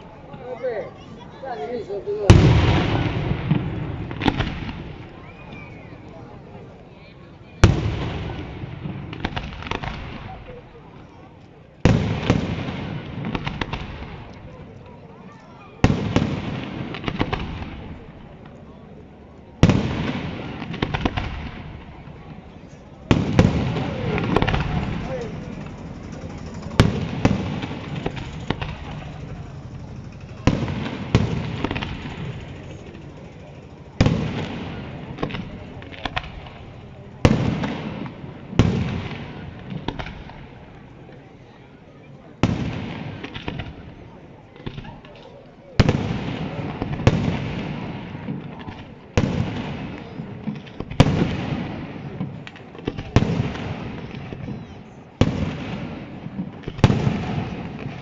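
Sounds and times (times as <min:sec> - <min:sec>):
fireworks bangs: 0:00.0 - 0:06.8, 0:07.4 - 0:58.0
fireworks crackling: 0:00.0 - 0:58.0.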